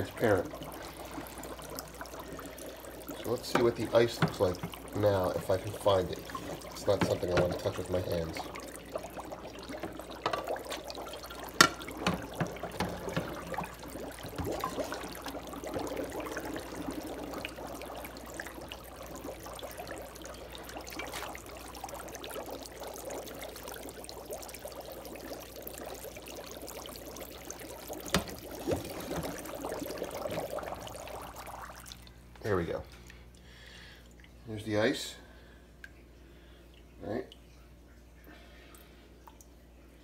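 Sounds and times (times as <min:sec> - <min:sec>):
water sloshing and bubbling: 0:00.0 - 0:40.0.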